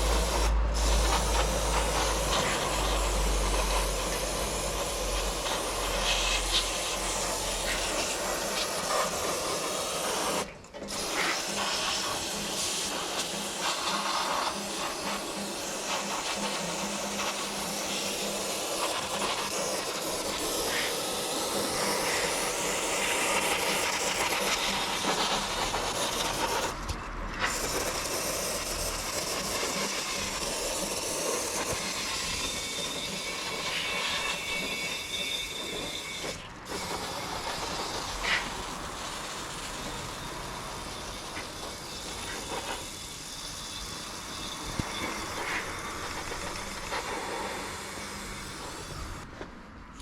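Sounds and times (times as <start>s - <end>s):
aerosol spray hissing: 0.0s - 26.8s, 27.4s - 43.0s.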